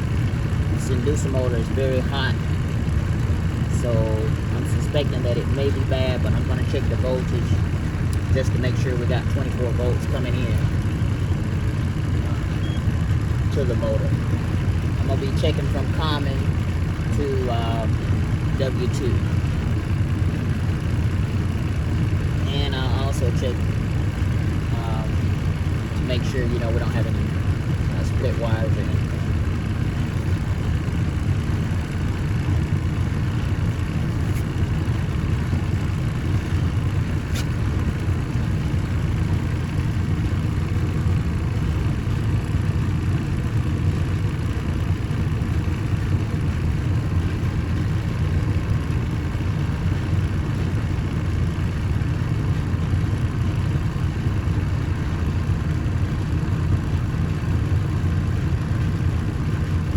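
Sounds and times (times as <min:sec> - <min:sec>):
low machinery rumble: 0:00.0 - 0:59.9.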